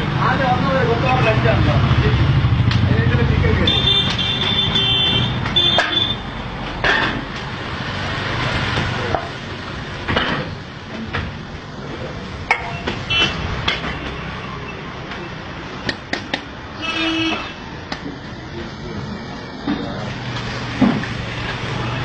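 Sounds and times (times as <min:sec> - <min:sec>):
street traffic hum: 0:00.0 - 0:22.0.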